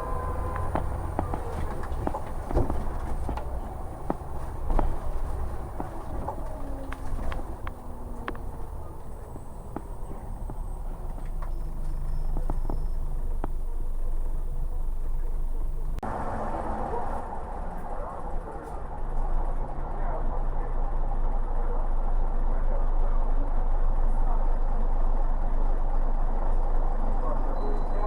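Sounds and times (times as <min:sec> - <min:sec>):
bus diesel engine hum: 0:00.0 - 0:28.0
road and cabin noise: 0:00.0 - 0:28.0.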